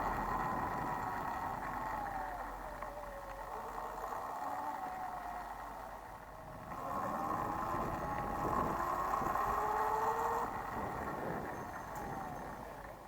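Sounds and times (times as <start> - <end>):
electric dirt bike motor whining: 0.0 - 13.0.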